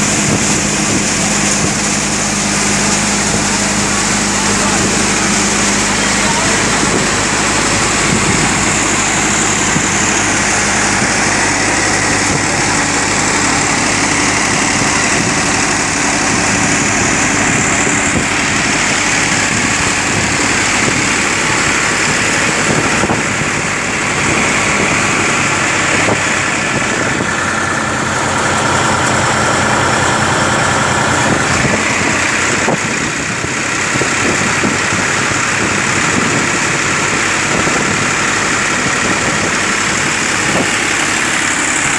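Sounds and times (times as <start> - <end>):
thresher whirring and hissing: 0.0 - 41.9
tractor diesel engine running: 0.0 - 41.9.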